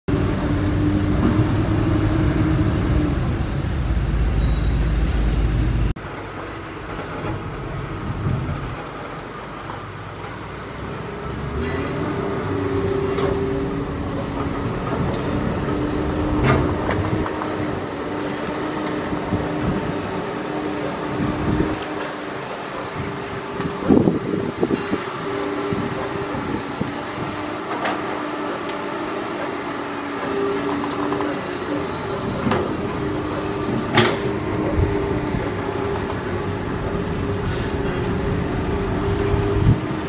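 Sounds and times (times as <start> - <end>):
excavator diesel engine running: 0.1 - 40.0.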